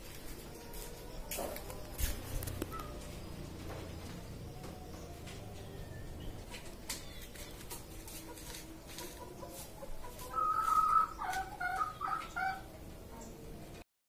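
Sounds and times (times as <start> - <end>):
chicken calling: 0.6 - 3.5, 4.3 - 12.9.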